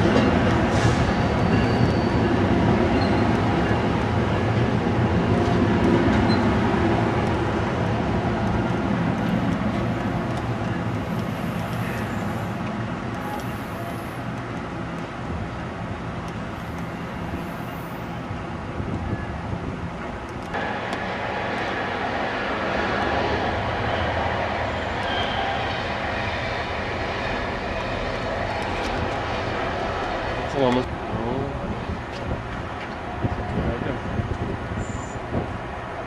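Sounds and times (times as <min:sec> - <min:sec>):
passenger train rumbling: 0:00.0 - 0:36.0.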